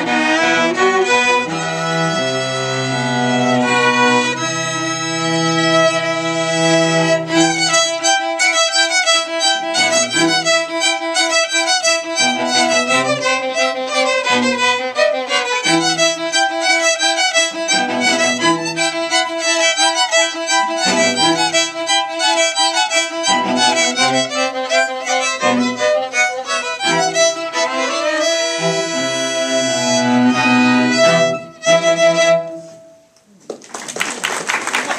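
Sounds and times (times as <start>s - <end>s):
string ensemble playing classical piece: 0.0s - 33.2s.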